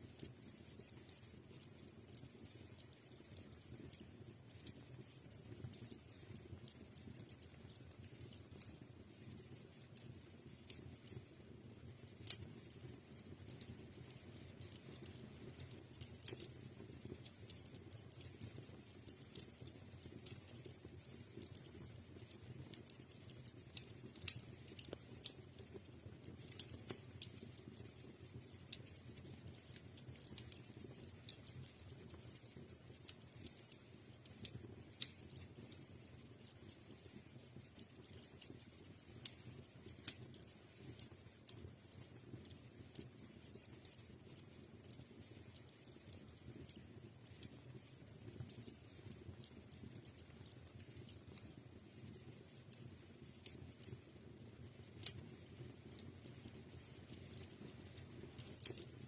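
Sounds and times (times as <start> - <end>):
low rush of burning fire: 0.0 - 59.0
wood fire crackling: 0.0 - 59.0.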